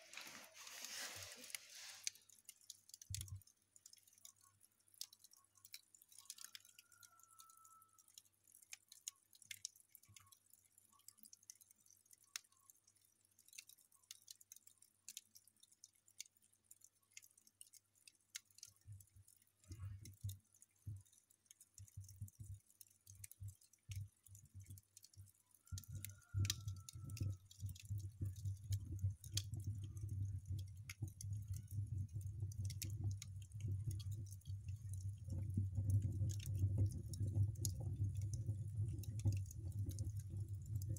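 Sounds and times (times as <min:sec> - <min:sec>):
embers crackling and popping: 0:00.0 - 0:40.9.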